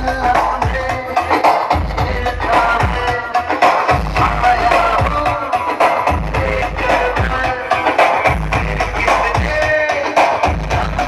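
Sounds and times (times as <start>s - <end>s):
busy percussion: 0.0s - 11.0s
loud dance music: 0.0s - 11.0s.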